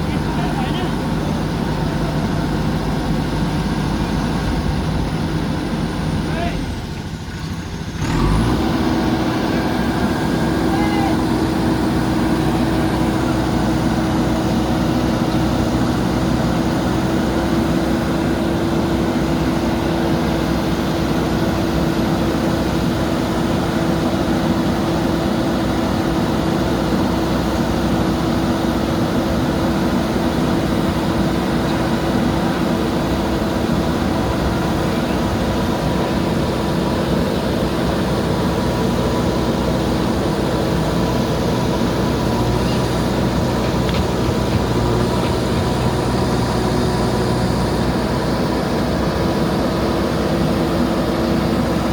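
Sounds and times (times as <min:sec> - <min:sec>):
backhoe diesel engine running: 0:00.0 - 0:51.9.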